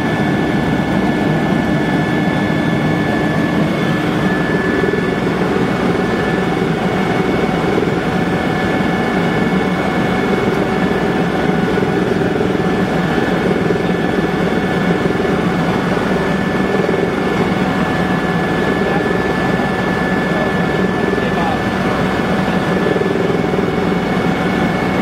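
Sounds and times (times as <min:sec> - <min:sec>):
helicopter turbine and rotors rumbling: 0:00.0 - 0:25.0
high turbine whine: 0:00.0 - 0:25.0.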